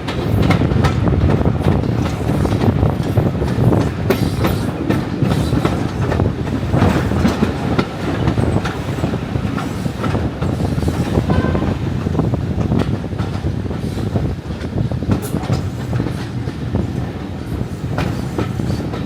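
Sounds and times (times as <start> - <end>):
diesel train rumble: 0.0 - 19.0.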